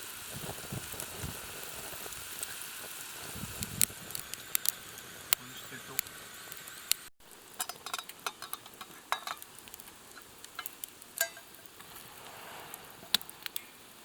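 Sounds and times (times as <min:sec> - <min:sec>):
food sizzling in a pan: 0:00.0 - 0:14.0
sharp pops and crackles: 0:00.0 - 0:14.0.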